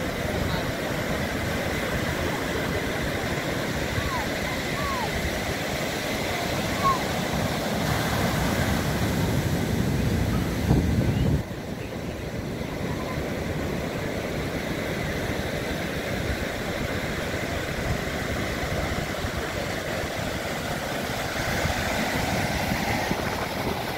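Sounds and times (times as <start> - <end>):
ocean waves breaking: 0.0 - 23.9.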